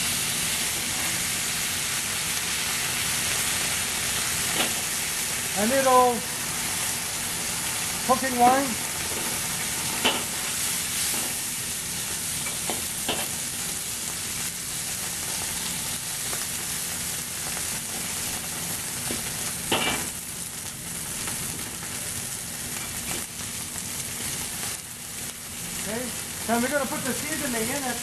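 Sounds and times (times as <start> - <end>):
vegetables sizzling in a wok: 0.0 - 28.0.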